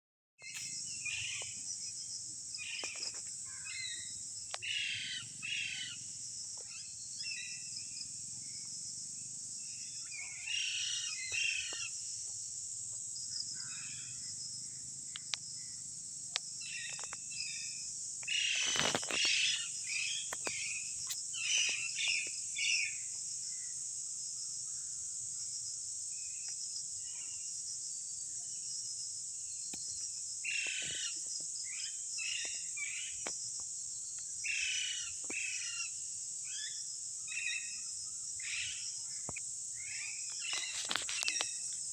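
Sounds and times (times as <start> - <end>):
high-pitched insect drone: 0.4 - 27.6, 28.4 - 41.9.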